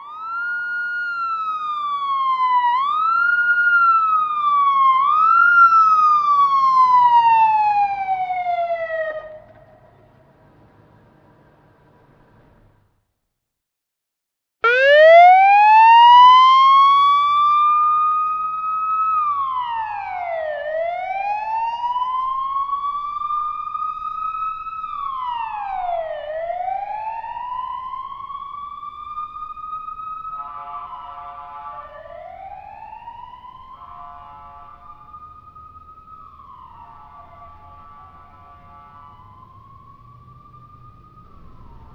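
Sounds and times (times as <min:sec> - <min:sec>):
siren wailing: 0:00.0 - 0:09.9, 0:14.6 - 0:41.9
steady stepped siren tones: 0:00.0 - 0:09.9, 0:14.6 - 0:41.9.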